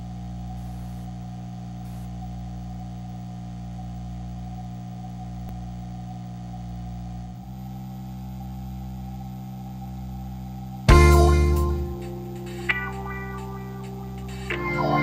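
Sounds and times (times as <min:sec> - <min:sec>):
droning hum of held tones: 0:00.0 - 0:15.0.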